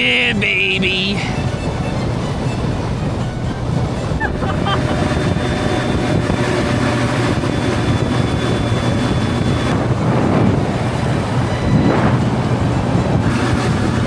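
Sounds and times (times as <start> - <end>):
motorboat engine running: 0.0 - 14.0
wind buffeting microphone: 0.0 - 14.0.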